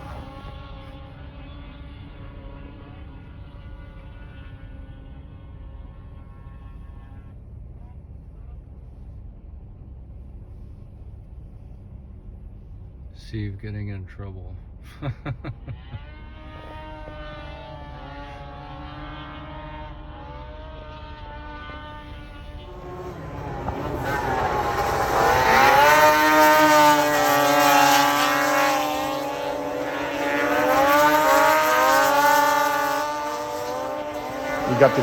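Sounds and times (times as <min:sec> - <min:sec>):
snowmobile engines revving: 0:00.0 - 0:08.5, 0:14.8 - 0:35.0.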